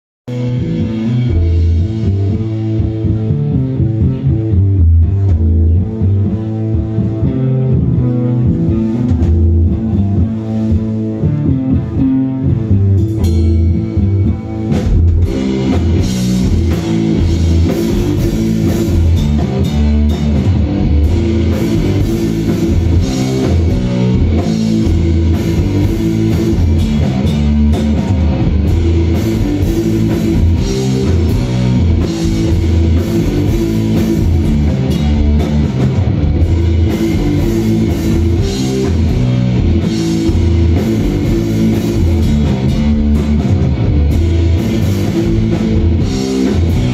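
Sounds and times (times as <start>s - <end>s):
bass guitar: 0.0s - 46.9s
distorted electric guitar: 0.3s - 46.9s
drum kit beat: 0.3s - 46.9s.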